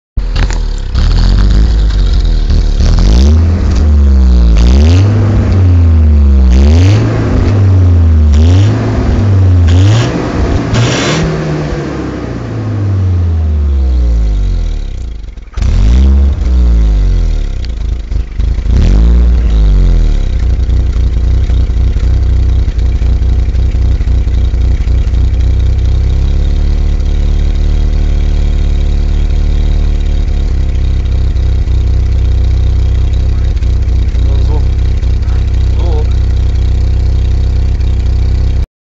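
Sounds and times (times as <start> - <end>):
car engine idling: 0.2 - 38.6
car engine revving: 0.2 - 38.6.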